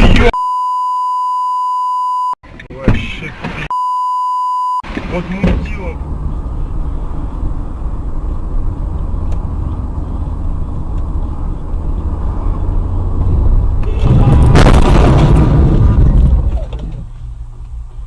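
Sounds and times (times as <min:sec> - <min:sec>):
car engine and road noise: 0:01.0 - 0:18.0.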